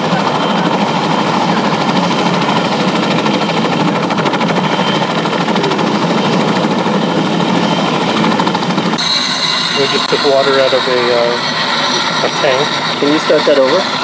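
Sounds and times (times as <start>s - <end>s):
helicopter blade chop: 0.0s - 14.0s
helicopter turbine whine: 0.0s - 14.0s.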